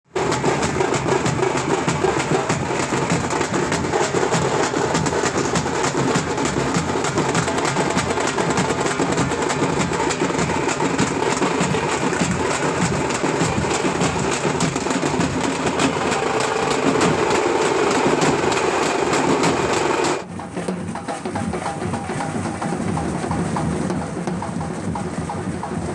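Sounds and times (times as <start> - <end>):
frame drums struck with sticks: 0.1 - 25.9.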